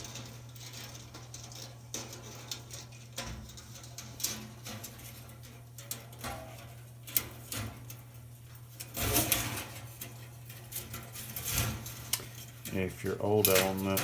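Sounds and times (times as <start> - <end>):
metal wire clicking and scraping: 0.0 - 14.0.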